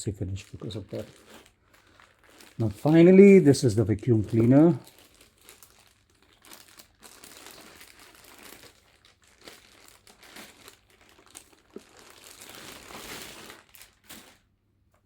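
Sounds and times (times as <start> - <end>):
packaging wrap crinkling: 0.0 - 14.6.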